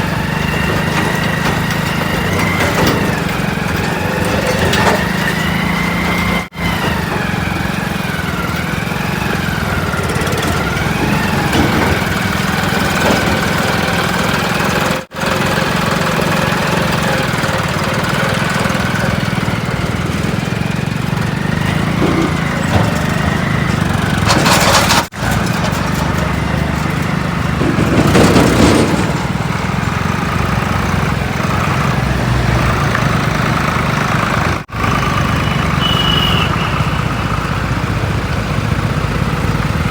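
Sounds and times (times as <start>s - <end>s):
diesel engines of machinery: 0.0s - 39.9s.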